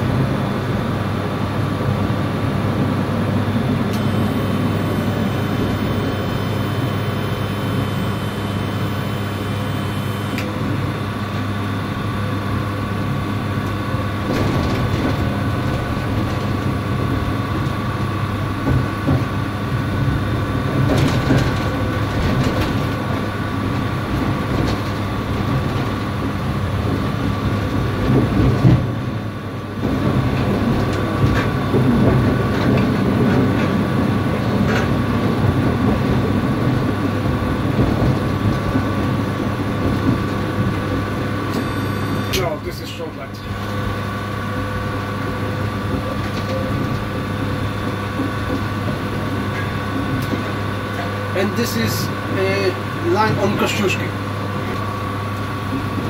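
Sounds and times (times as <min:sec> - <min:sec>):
tram humming on track: 0:00.0 - 0:56.0.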